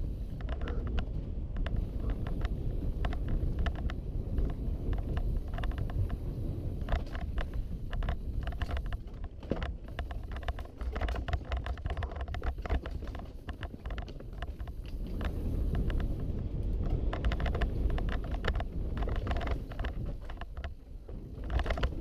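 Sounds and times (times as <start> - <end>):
bike clicks knocks and rattles: 0.0 - 22.0
wind rumbling on microphone: 0.0 - 22.0.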